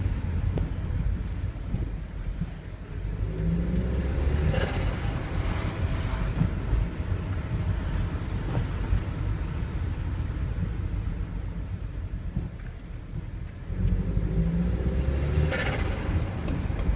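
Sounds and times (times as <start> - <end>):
car engine running: 0.0 - 16.9.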